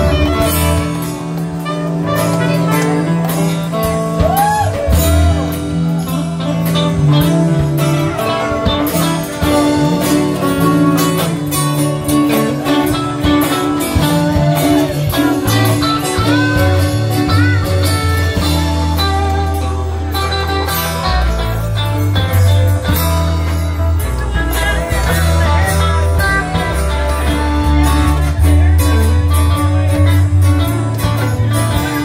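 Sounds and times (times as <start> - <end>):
drums: 0.0 - 32.0
strummed and picked guitars: 0.0 - 32.0.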